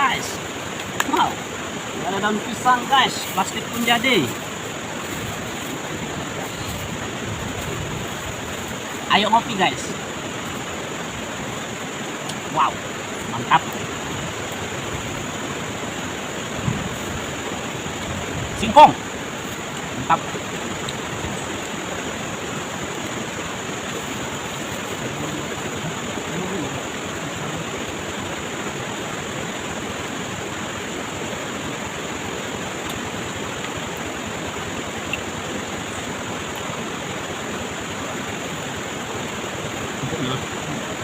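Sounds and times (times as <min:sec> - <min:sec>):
high-pitched hum: 0:00.0 - 0:41.0
rush of flowing water: 0:00.0 - 0:41.0.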